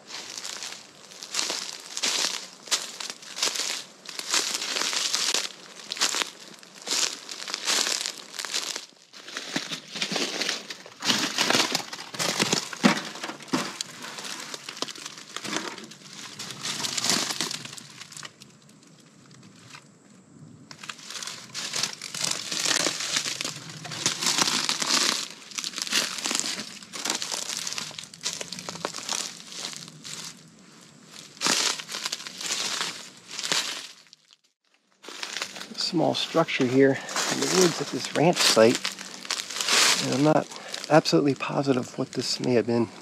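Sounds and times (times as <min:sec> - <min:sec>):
footsteps crunching through dry leaves: 0:00.0 - 0:18.5, 0:20.7 - 0:43.0.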